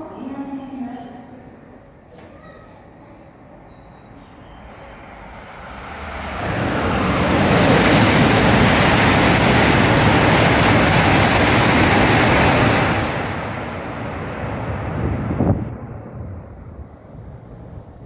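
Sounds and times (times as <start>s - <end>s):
high-speed train passing: 2.7s - 18.0s.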